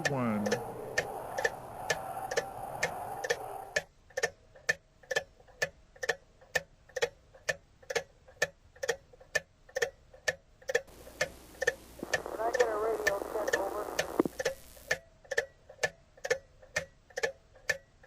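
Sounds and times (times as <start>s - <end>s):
background noise: 0.0s - 18.0s
steady ticking: 0.0s - 18.0s.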